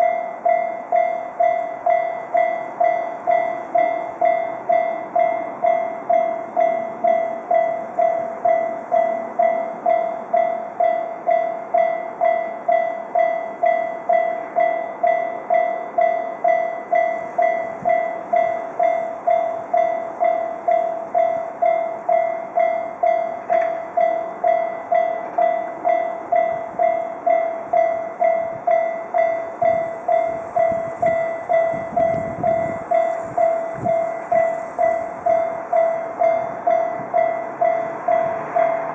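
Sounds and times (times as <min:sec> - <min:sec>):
level crossing electronic bell: 0:00.0 - 0:38.9.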